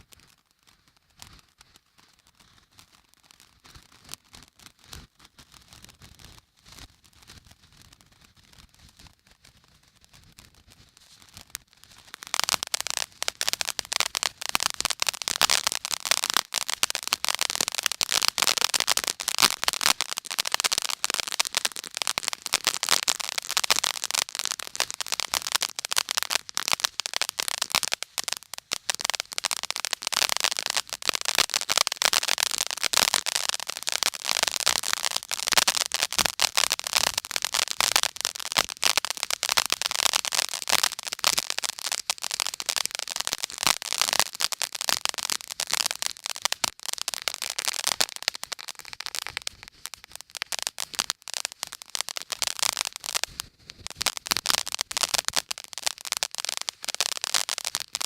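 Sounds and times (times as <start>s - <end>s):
firecrackers crackling: 0.0s - 9.4s, 10.1s - 58.0s.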